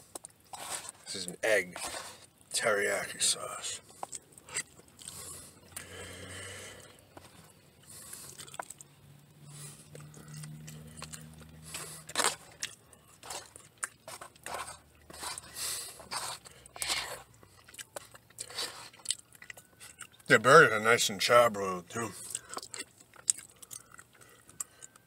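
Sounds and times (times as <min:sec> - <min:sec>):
person chewing food: 0:00.0 - 0:02.5, 0:03.2 - 0:20.4, 0:22.1 - 0:25.0.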